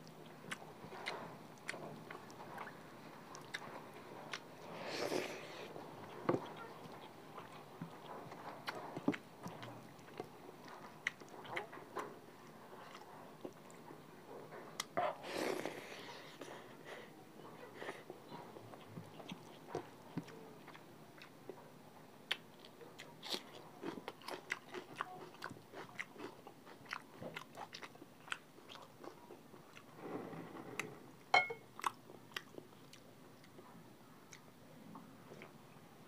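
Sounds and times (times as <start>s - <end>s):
close-miked chewing and biting: 0.0s - 16.5s, 17.8s - 21.6s, 22.3s - 29.9s, 31.7s - 33.7s.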